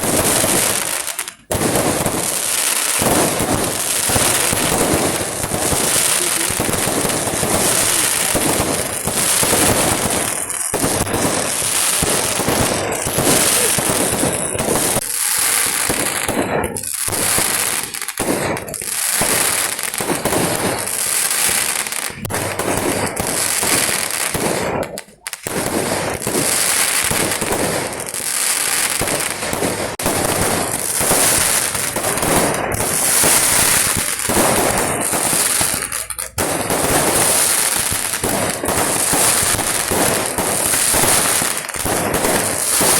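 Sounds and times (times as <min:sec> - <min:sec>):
firecracker bangs: 0:00.0 - 0:42.9.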